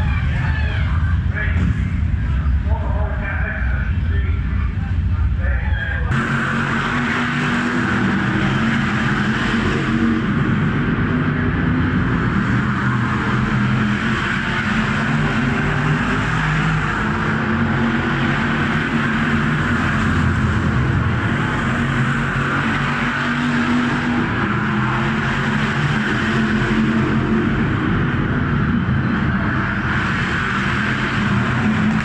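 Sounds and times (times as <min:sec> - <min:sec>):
race car engines running hard: 0:00.0 - 0:32.0.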